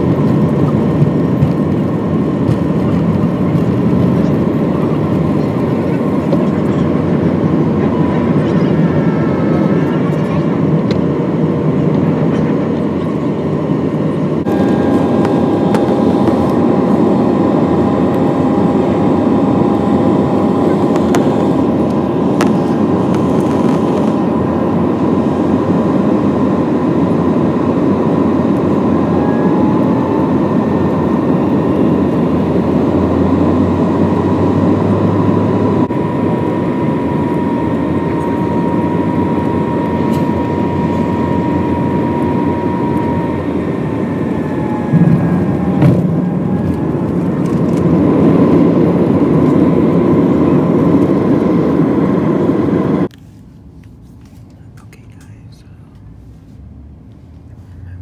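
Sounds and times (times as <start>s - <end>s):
jet engine and airflow rush: 0.0s - 56.2s
faint steady whine: 0.0s - 58.0s.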